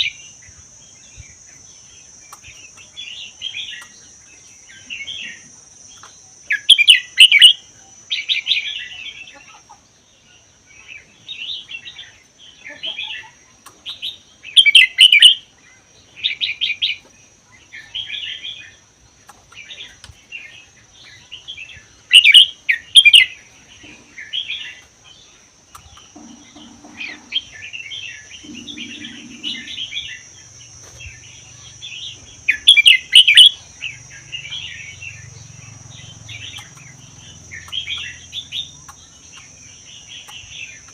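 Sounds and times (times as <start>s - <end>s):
bird singing warbled phrases: 0.0s - 40.9s
steady high-pitched whine: 0.0s - 40.9s.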